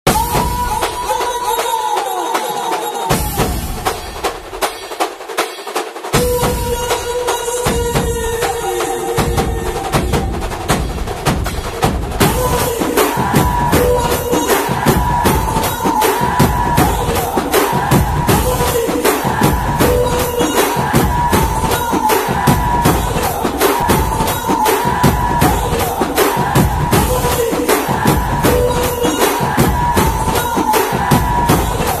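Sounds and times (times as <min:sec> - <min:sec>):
background music with drum beat: 0:00.0 - 0:32.0.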